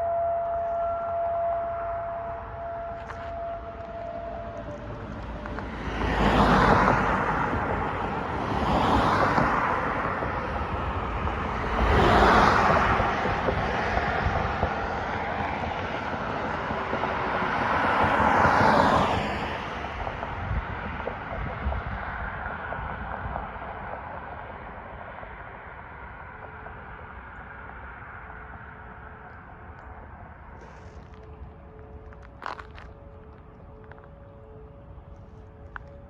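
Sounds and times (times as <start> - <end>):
vehicles passing: 0.0 - 36.0.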